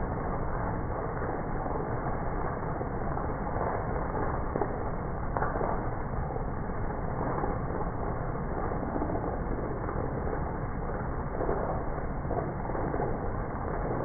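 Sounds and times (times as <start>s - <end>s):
heavy rain on wooden deck: 0.0s - 14.0s.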